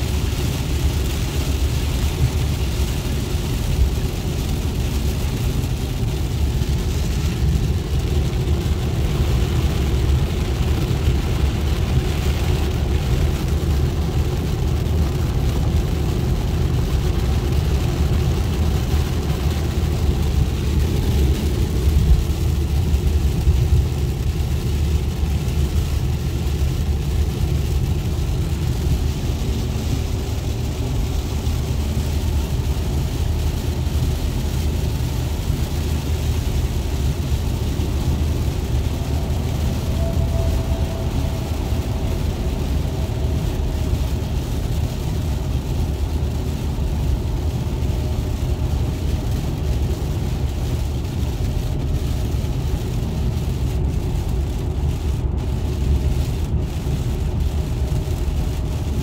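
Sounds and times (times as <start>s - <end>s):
engine and road rumble: 0.0s - 59.0s
rain on car: 0.0s - 59.0s
tyres hissing on wet pavement: 0.0s - 59.0s.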